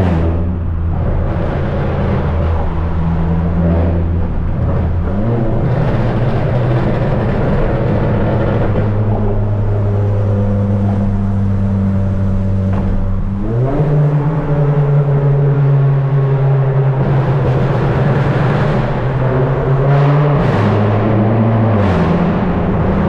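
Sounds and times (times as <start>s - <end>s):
car engine and exhaust revving: 0.0s - 23.0s.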